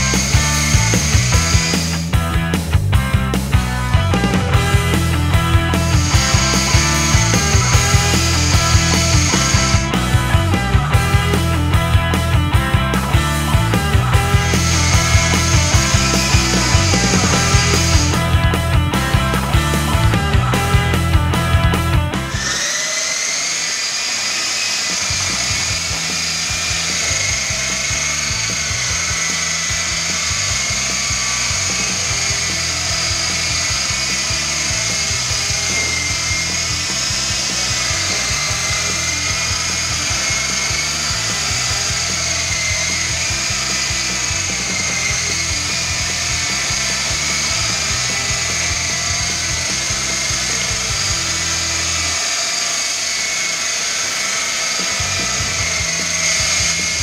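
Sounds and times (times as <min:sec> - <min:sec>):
rc helicopter motors whining: 0:00.0 - 0:02.4, 0:04.2 - 0:57.0
background music with bass: 0:00.0 - 0:22.6, 0:25.1 - 0:52.3, 0:54.8 - 0:57.0.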